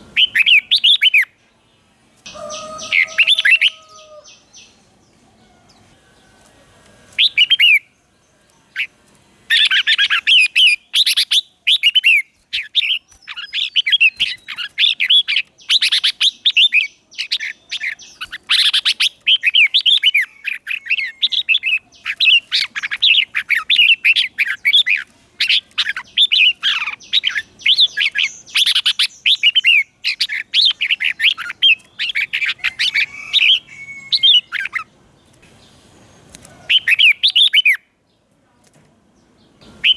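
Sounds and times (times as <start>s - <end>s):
bird warbling song: 0.0s - 1.5s, 2.2s - 37.9s, 39.4s - 39.9s.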